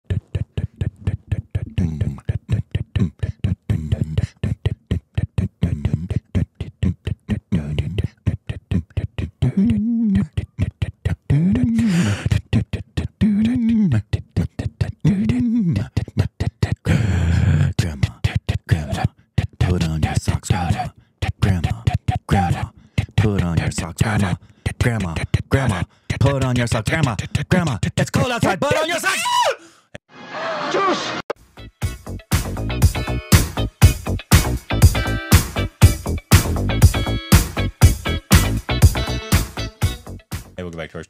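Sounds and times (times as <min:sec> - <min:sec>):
beatboxing vocal percussion: 0:00.0 - 0:28.9, 0:32.3 - 0:41.0.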